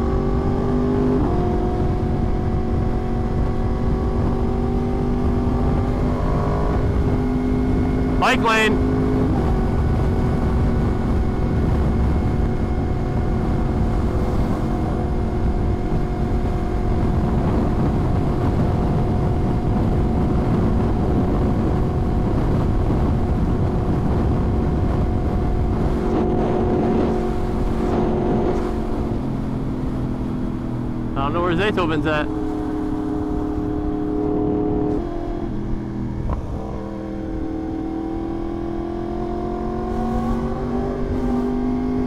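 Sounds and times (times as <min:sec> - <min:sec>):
motorcycle engine cruising: 0:00.0 - 0:42.0
road and wind noise: 0:00.0 - 0:42.0.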